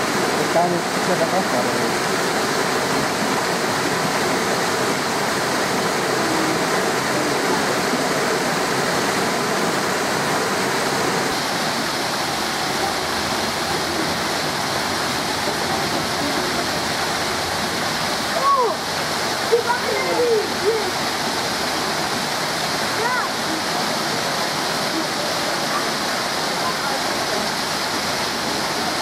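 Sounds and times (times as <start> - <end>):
running water rushing: 0.0 - 29.0.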